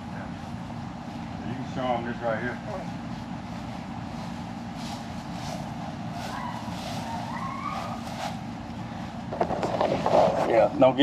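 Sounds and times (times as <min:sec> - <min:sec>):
equipment humming: 0:00.0 - 0:11.0.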